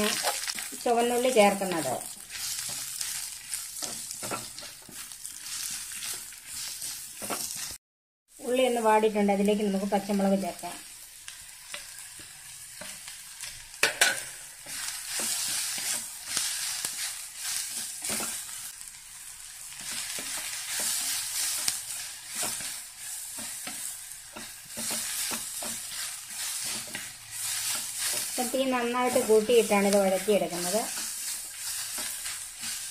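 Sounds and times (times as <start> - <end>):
shallots sizzling in hot oil: 0.0 - 32.9.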